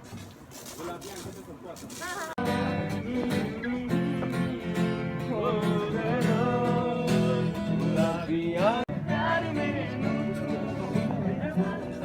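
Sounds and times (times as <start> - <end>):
guitar: 2.0 - 12.0.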